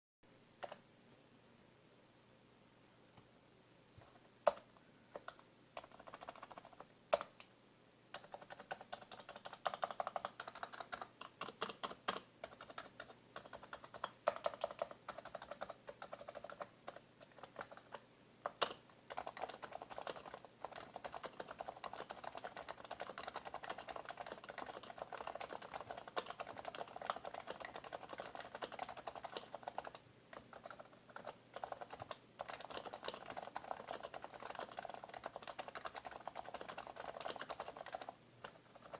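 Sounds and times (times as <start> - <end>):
keyboard typing: 0.6 - 0.9, 4.0 - 7.5, 8.1 - 38.9.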